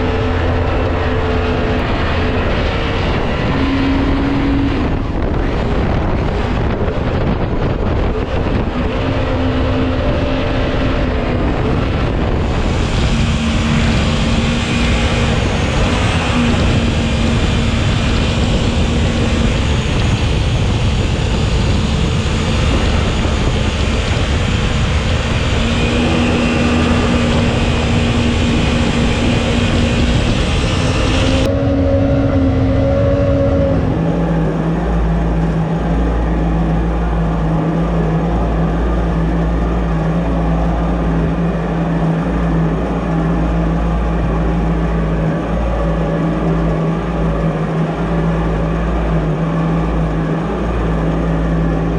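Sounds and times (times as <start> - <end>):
boat engine running: 0.0 - 51.9
water rushing from jet drive: 0.0 - 51.9.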